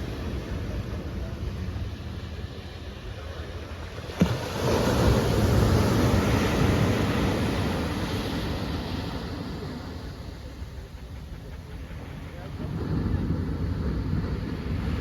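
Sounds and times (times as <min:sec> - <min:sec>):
ocean wave breaking: 0:00.0 - 0:15.0.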